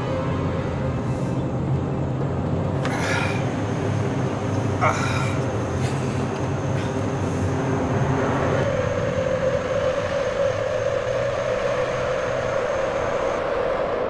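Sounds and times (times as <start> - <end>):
low rumbling drone: 0.0 - 14.0.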